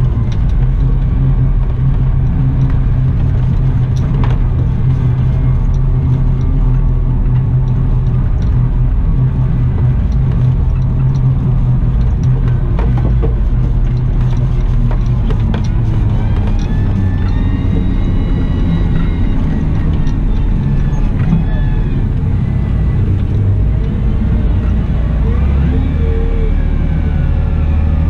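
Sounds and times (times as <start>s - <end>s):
diesel engine running: 0.0s - 28.0s
rising whine: 0.0s - 28.0s.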